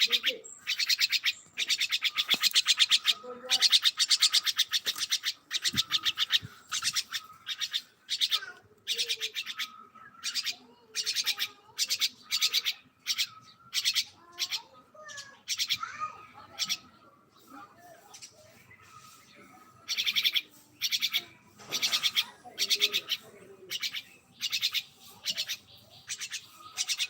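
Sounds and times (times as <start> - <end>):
bird chattering calls: 0.0 - 17.0, 18.1 - 27.0.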